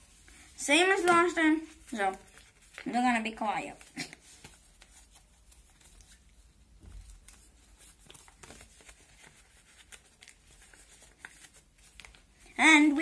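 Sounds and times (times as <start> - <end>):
paper being folded: 0.0 - 13.0.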